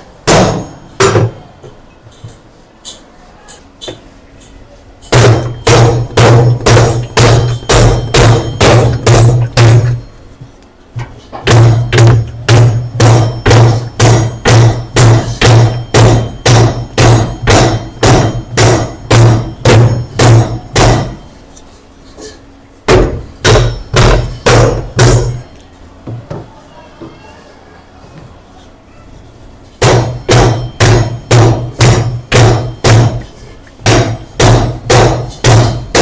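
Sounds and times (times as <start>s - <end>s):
hammer blows on metal: 0.2s - 10.2s, 11.2s - 21.5s, 22.2s - 25.6s, 29.8s - 36.0s.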